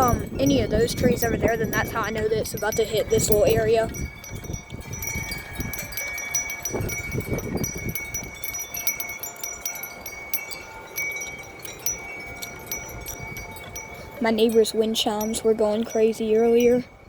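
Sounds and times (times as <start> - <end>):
metal wind chimes ringing: 0.0 - 17.0
wind rumble on microphone: 0.0 - 17.0.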